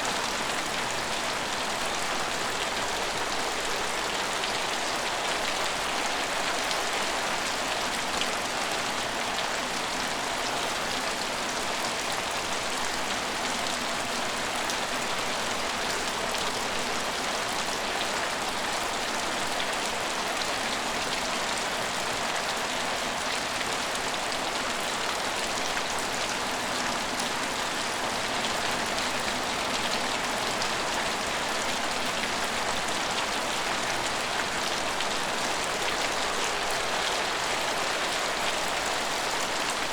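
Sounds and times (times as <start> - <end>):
steady rain on surfaces: 0.0 - 39.9.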